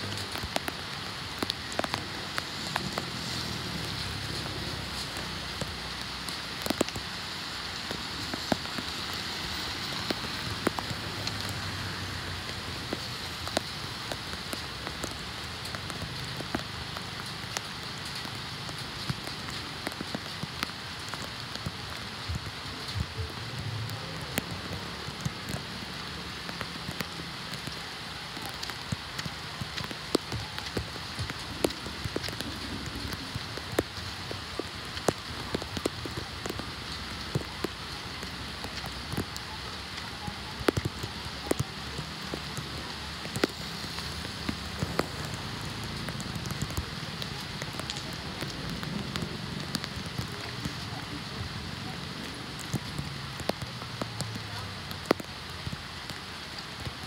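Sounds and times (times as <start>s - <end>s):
water drips and ticks: 0.0s - 57.0s
water washing on flooded street: 0.0s - 57.0s.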